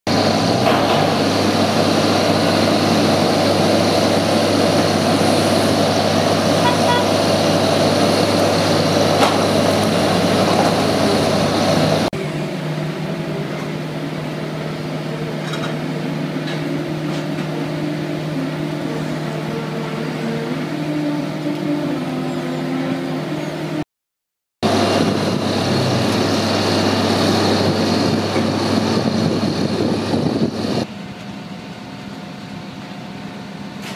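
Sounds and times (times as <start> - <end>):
airport ground equipment drone: 0.1 - 23.8, 24.6 - 33.9.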